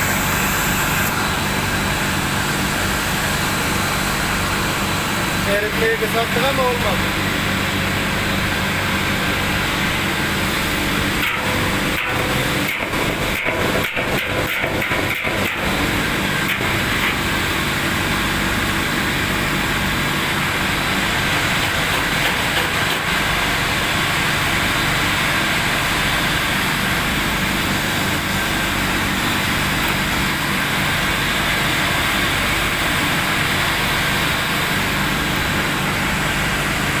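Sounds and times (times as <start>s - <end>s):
furnace mechanical drone: 0.0s - 37.0s.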